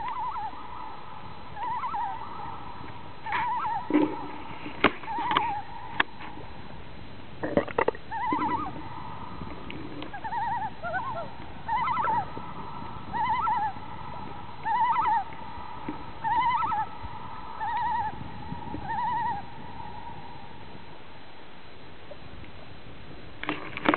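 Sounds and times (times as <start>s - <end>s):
loons tremolo calling: 0.0s - 22.8s.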